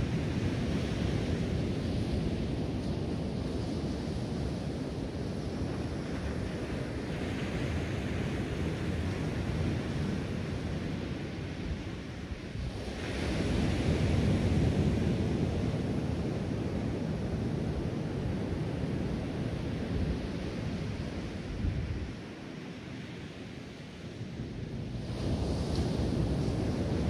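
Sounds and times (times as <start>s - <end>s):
surf washing onto beach: 0.0s - 24.2s, 24.8s - 27.0s
wind rumbling on microphone: 0.0s - 27.0s.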